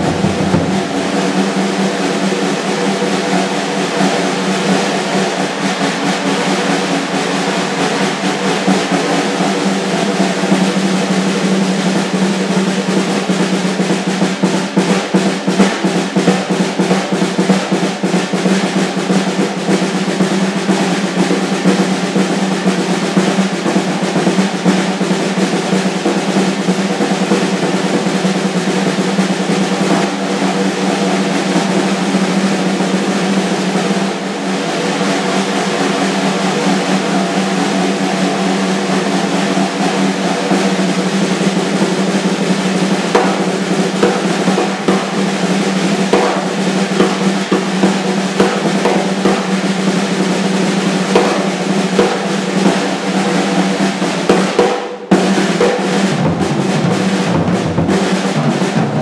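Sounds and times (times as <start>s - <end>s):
drum kit played with sticks: 0.0s - 59.0s.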